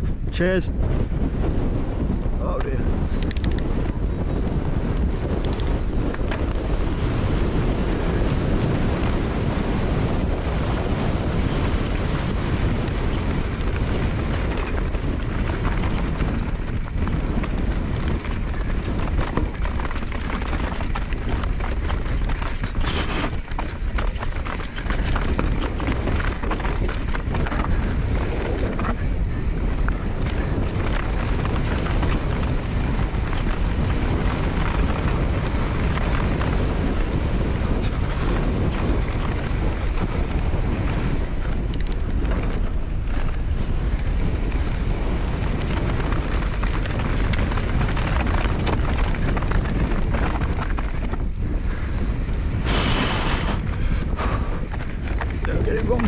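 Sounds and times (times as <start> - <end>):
tyres rumbling on dirt trail: 0.0 - 56.0
wind buffeting microphone: 0.0 - 56.0
bike knocking and rattling: 1.1 - 56.0.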